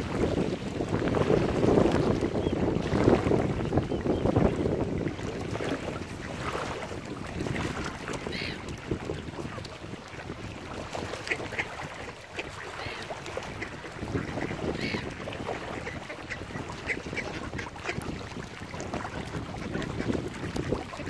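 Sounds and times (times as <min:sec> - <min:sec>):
wind rumble on microphone: 0:00.0 - 0:21.0
waterbird calls: 0:00.2 - 0:21.0.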